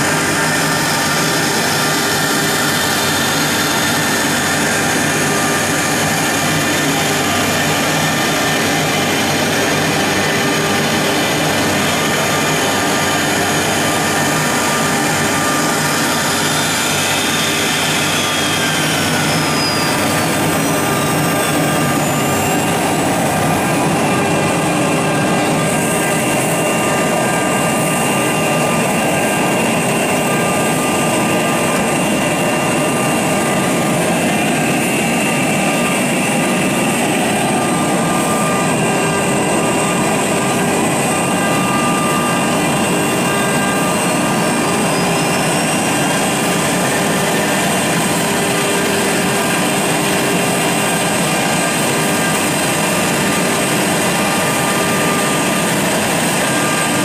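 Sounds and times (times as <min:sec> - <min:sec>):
wood router spindle whine: 0:00.0 - 0:57.0.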